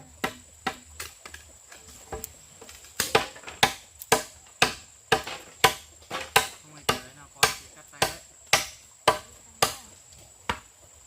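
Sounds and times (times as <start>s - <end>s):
blade chopping wood: 0.2s - 1.4s, 2.1s - 9.9s, 10.5s - 10.7s.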